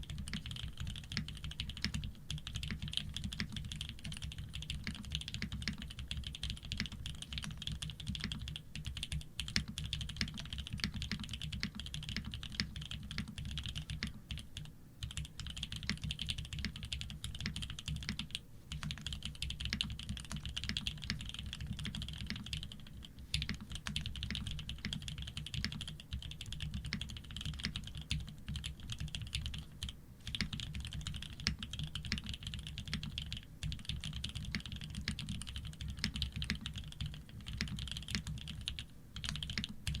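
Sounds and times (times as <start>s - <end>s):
mechanical keyboard typing: 0.0s - 40.0s.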